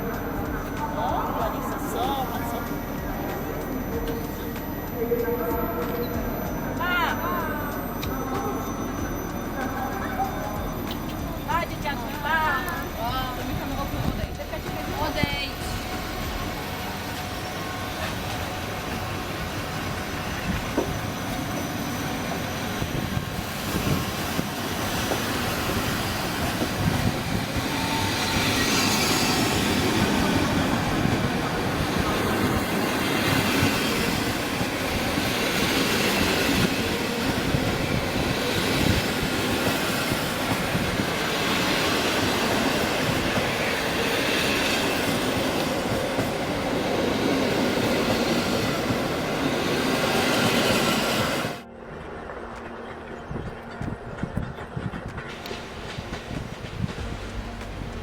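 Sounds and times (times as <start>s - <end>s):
wheels squealing on rails: 0.0s - 58.0s.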